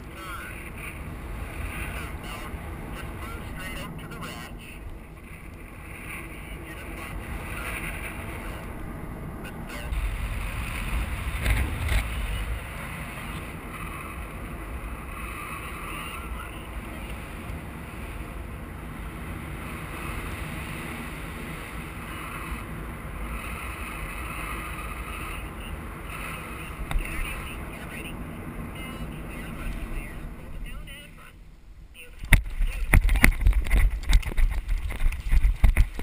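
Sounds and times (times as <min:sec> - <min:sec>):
wind rushing over microphone: 0:00.0 - 0:31.2, 0:31.8 - 0:36.0.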